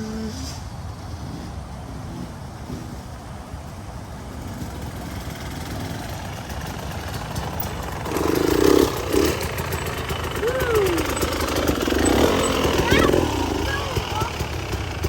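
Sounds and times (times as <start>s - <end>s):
dirt bike engines approaching: 0.0s - 15.0s.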